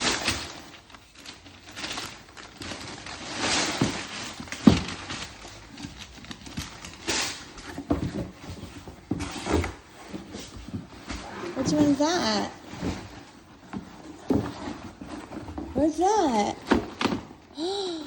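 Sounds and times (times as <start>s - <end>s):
wrapping paper rustling: 0.0s - 15.6s.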